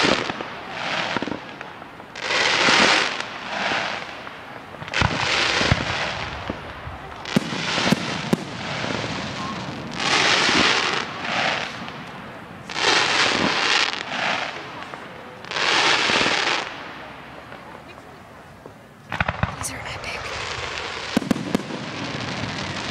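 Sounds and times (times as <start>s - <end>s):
firework shells bursting bangs: 0.0s - 16.8s, 19.1s - 22.9s
crackling firework shells: 0.0s - 22.9s.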